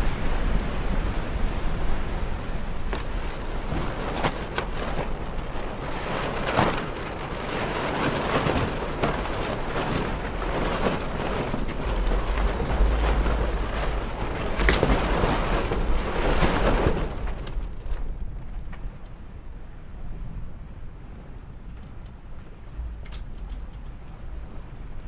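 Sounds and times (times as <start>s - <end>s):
strong wind gusting: 0.0s - 21.0s
water washing around hull: 0.0s - 25.0s
wind buffeting microphone: 0.0s - 25.0s.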